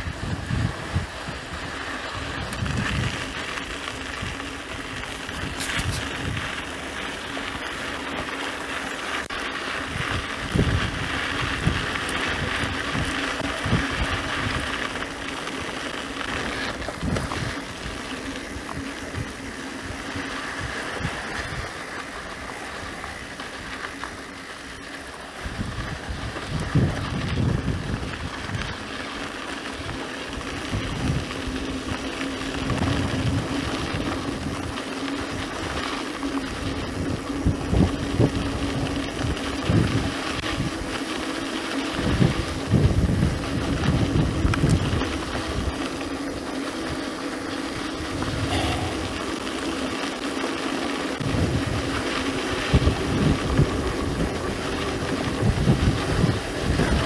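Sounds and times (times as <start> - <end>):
wind buffeting microphone: 0.0 - 7.0, 9.3 - 24.6, 25.3 - 50.3, 51.0 - 57.0
bicycle tyre and drivetrain noise: 0.0 - 57.0.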